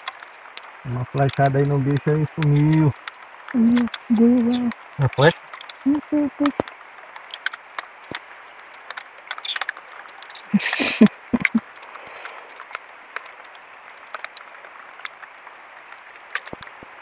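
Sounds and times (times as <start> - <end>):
light rain on water: 0.0 - 17.0
raindrops ticking on wood: 0.0 - 17.0.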